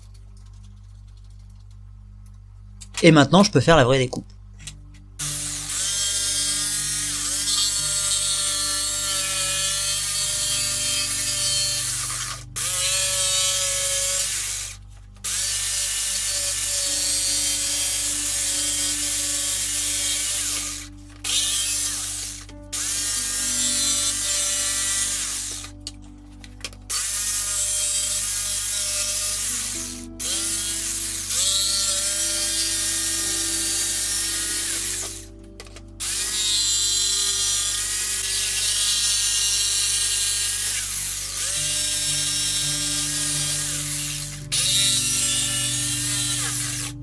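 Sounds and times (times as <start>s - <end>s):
jigsaw cutting wood: 5.2s - 25.9s, 26.7s - 35.4s, 36.0s - 47.0s.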